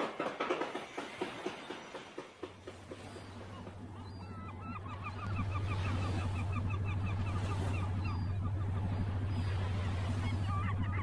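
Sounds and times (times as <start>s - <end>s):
boat engine drone: 2.1s - 11.0s.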